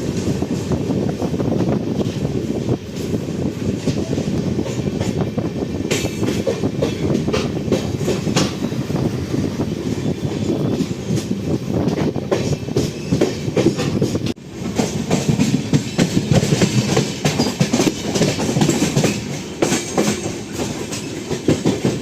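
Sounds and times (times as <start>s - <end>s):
train wheels clattering over rails: 0.0s - 22.0s.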